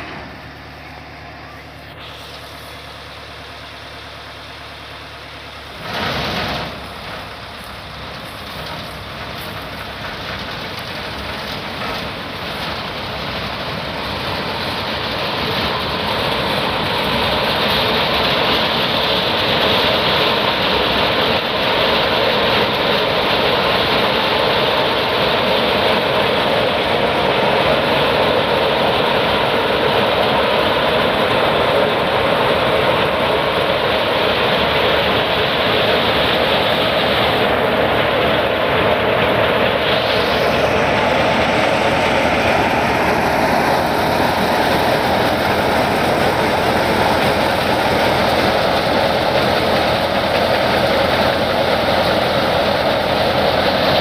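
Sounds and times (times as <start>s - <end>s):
thresher rushing noise: 0.0s - 3.9s, 4.6s - 54.0s
tractor engine running: 0.0s - 54.0s.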